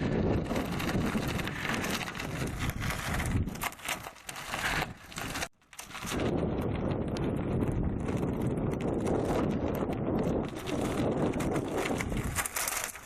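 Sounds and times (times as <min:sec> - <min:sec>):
bicycle tyres on gravel: 0:00.0 - 0:13.0
wind buffeting microphone: 0:00.0 - 0:13.0.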